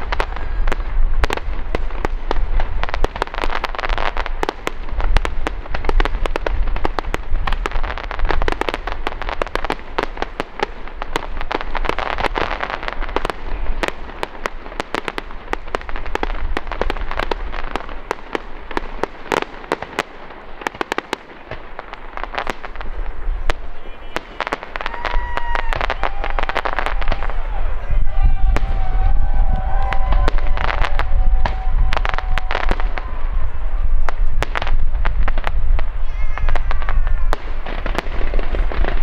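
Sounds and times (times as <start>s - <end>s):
fireworks crackling and popping: 0.0s - 39.0s
fireworks deep booms: 0.0s - 39.0s.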